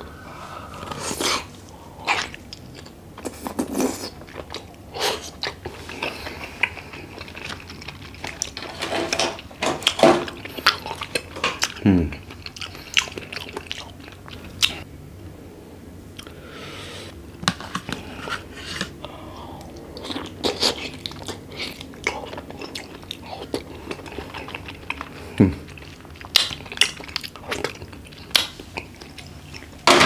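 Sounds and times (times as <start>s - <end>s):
person chewing food: 0.0s - 14.9s, 17.5s - 30.0s.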